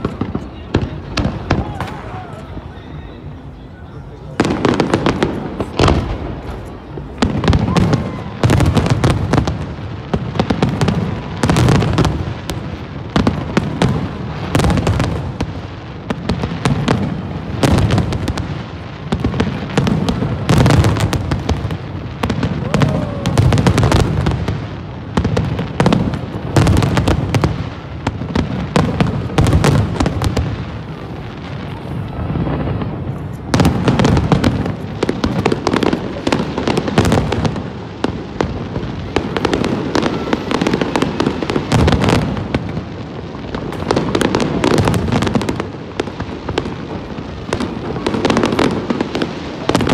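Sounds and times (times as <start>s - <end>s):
fireworks banging: 0.0s - 49.9s.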